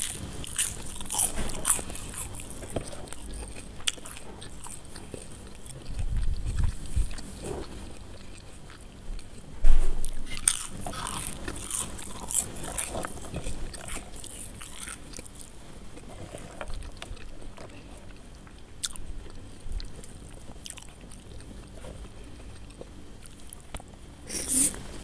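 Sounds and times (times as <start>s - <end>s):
crunching fried potato: 0.0s - 24.9s
soft chewing: 0.0s - 25.0s.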